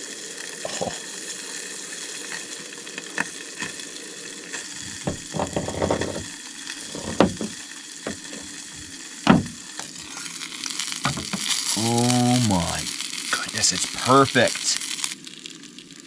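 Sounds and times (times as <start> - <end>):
fish sizzling in frying pan: 0.0 - 16.0.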